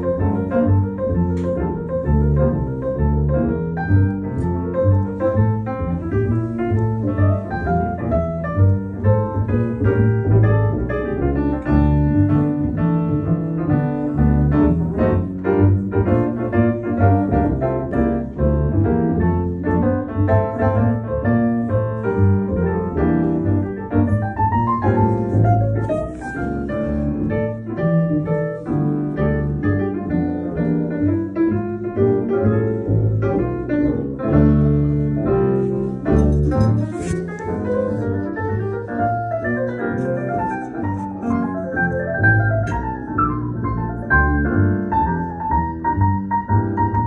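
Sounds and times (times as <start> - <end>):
jazz piano: 0.0 - 47.0
upright double bass: 0.0 - 47.0.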